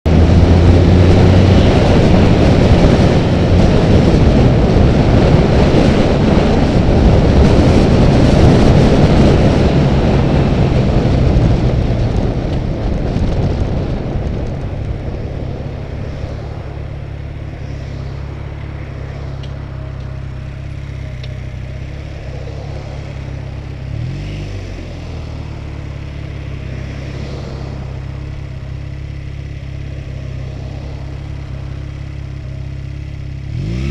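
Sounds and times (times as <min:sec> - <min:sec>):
motorcycle engine: 0:00.0 - 0:33.9
wind rush: 0:00.1 - 0:33.9.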